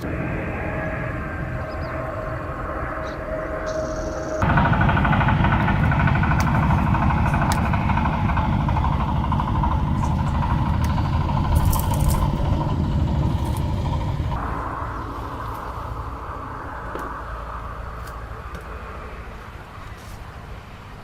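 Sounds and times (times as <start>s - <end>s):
engine running with low rumble: 0.0s - 21.0s.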